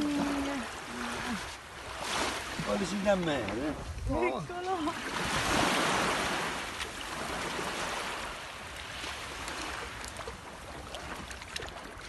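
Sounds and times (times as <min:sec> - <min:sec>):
small waves washing over sand: 0:00.0 - 0:12.0.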